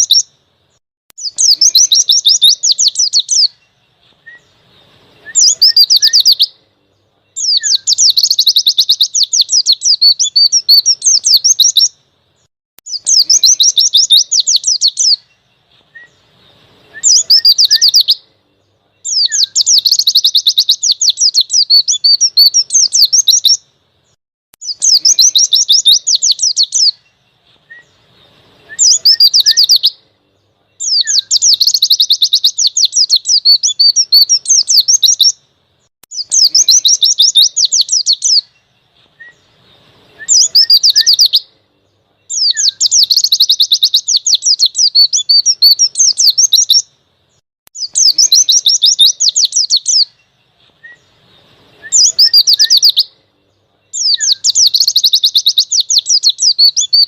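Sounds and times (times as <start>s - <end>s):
bird rapid chirps and trills: 0.0s - 57.0s.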